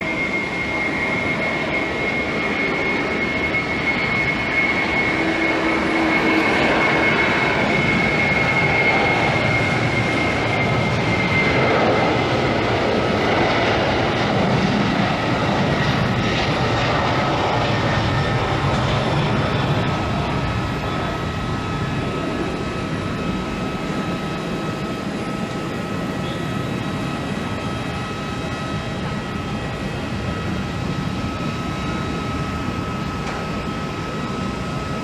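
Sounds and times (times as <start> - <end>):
high engine whine: 0.0 - 35.0
jet engines rushing: 0.0 - 35.0.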